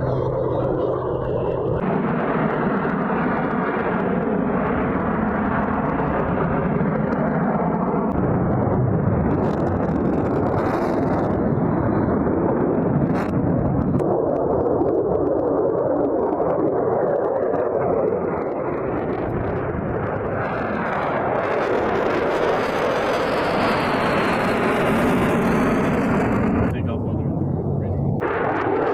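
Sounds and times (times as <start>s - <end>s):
fighter jet engines roaring: 0.0s - 28.9s.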